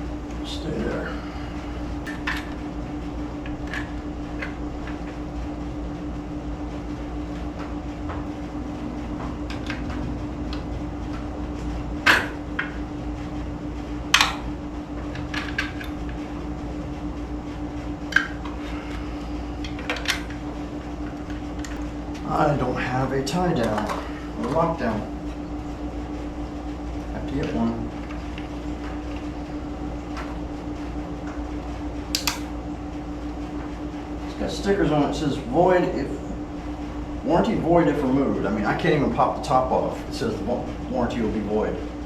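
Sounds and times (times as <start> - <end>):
steady mechanical hum: 0.0 - 42.0.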